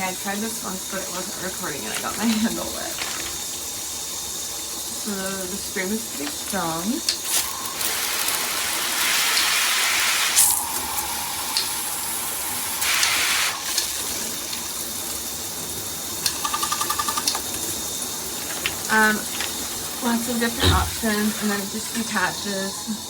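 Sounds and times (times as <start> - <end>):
shower head spraying water: 0.0 - 23.0.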